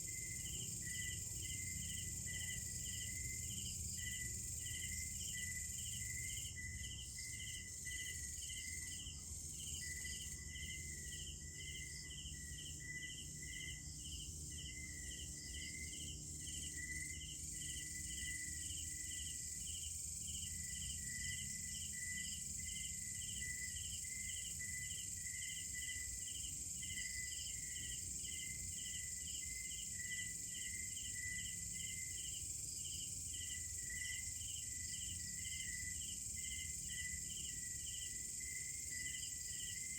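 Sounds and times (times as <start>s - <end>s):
insect trill: 0.0s - 39.9s
insects buzzing: 0.0s - 39.9s
pulsing cricket chirp: 0.0s - 39.9s.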